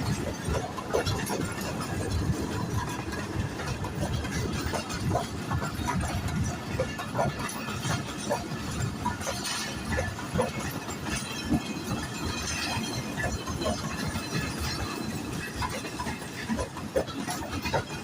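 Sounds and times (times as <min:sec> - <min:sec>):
clanks and squeaks: 0:00.0 - 0:18.0
locomotive engine and wheels rumble: 0:00.0 - 0:18.0.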